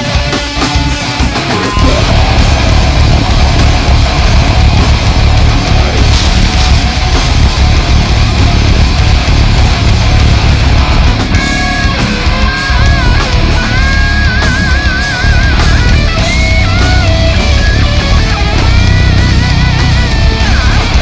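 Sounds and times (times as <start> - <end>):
heavy rock band playing: 0.0 - 21.0
lead guitar melody: 0.0 - 21.0.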